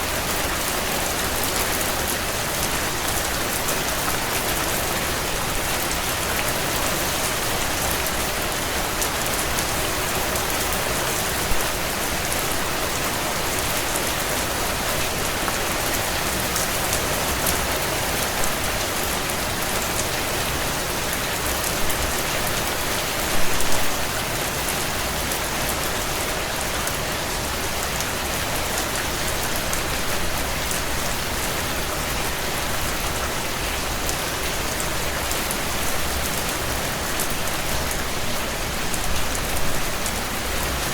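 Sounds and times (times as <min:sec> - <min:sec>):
heavy rain on window panes: 0:00.0 - 0:40.9.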